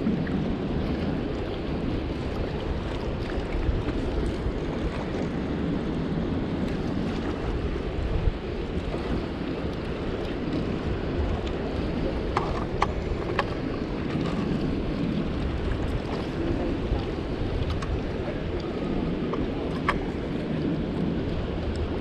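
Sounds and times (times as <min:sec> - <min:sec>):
water slapping boat hull: 0:00.0 - 0:22.0
wind buffeting microphone: 0:00.0 - 0:22.0.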